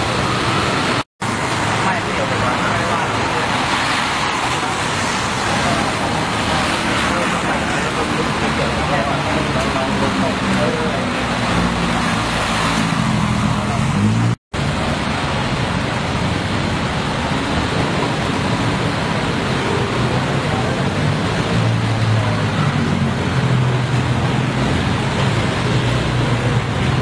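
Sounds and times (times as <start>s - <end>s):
street noise hiss: 0.0s - 27.0s.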